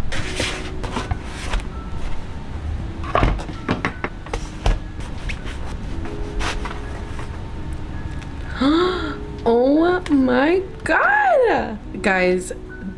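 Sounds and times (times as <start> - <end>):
faint background music: 0.0 - 12.9.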